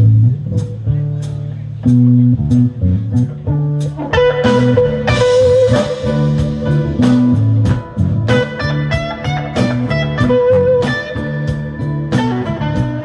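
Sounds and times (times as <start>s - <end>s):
electric blues band playing: 0.0s - 13.0s.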